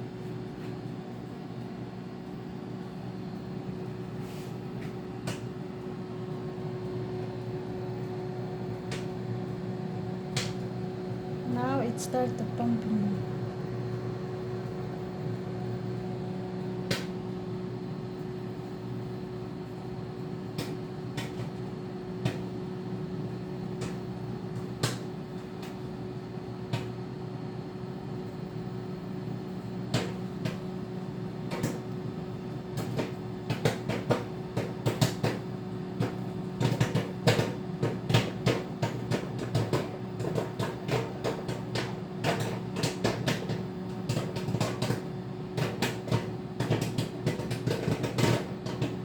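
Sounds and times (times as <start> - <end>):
microwave oven hum: 0.0 - 49.0
popcorn popping: 4.9 - 13.9, 14.6 - 49.0.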